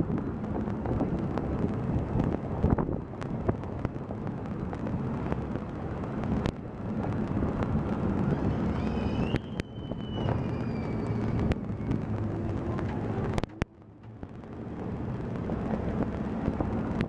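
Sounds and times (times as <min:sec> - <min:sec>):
tuk-tuk engine drone: 0:00.0 - 0:17.0
wind buffeting microphone: 0:00.0 - 0:17.0.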